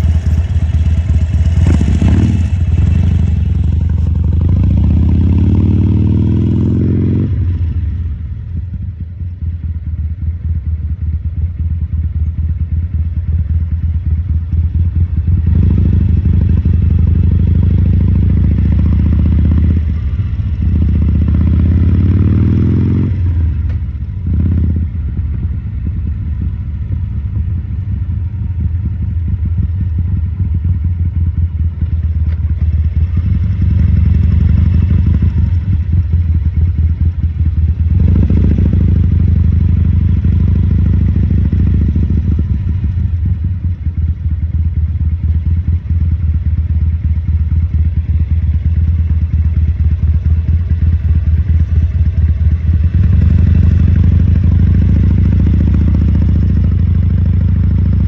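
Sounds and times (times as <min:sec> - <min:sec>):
motorcycle engine revving: 0:00.0 - 0:09.0, 0:10.5 - 0:58.0.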